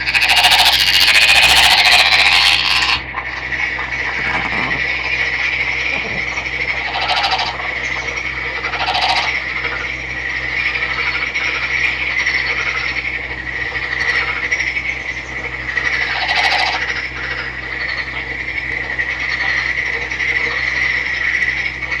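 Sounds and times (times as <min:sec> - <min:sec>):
frog croaking: 0:00.0 - 0:22.0.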